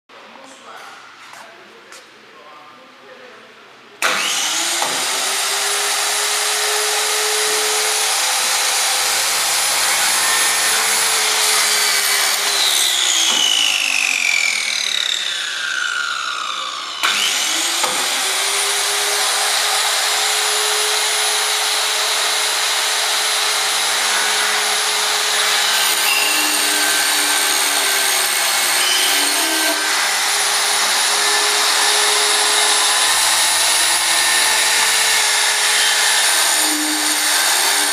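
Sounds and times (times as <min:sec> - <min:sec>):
circular saw whining: 0:04.0 - 0:37.9.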